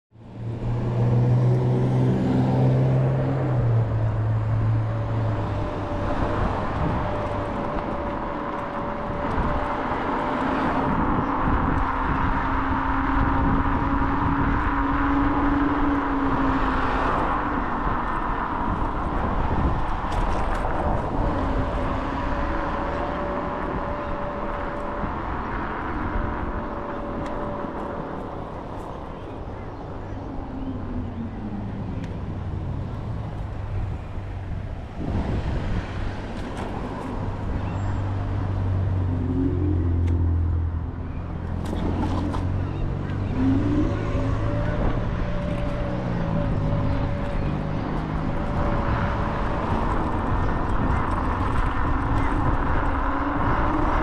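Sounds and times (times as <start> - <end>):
road noise: 0.1 - 54.0
wind rushing over microphone: 0.2 - 54.0.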